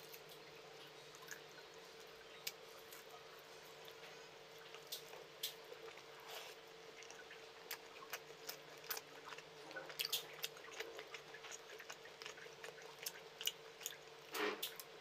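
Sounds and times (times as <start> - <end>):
faint steady hum: 0.0 - 15.0
chewing and mouth sounds: 0.1 - 14.9
wet squishes of fingers in food: 0.1 - 14.9.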